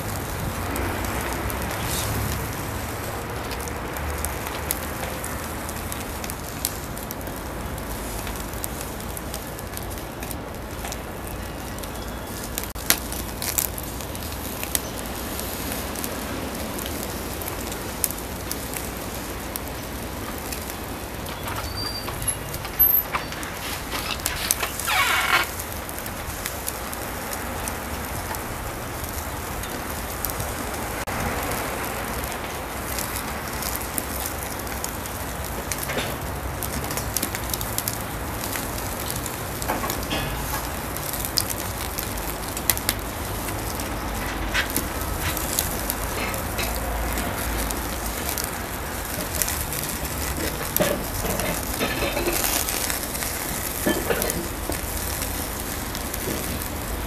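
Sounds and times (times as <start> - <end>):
burning coals crackling: 0.0 - 57.0
meat sizzling on a grill: 0.0 - 57.0.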